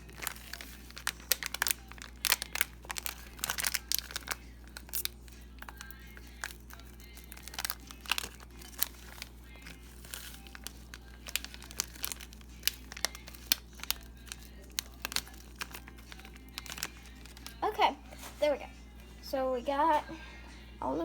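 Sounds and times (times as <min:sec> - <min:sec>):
plastic packet crinkling: 0:00.0 - 0:18.3.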